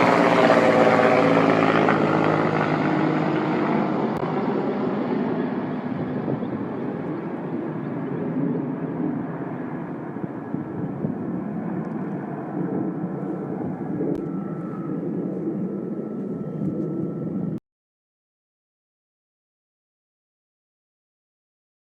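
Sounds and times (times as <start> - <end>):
helicopter rotor and turbine: 0.0 - 17.6.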